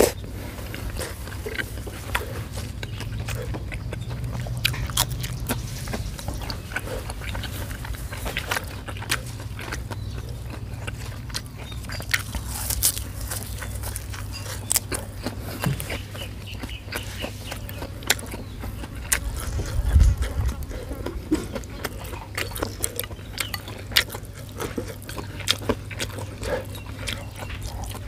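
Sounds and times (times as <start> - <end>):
person chewing wetly: 0.0 - 28.0.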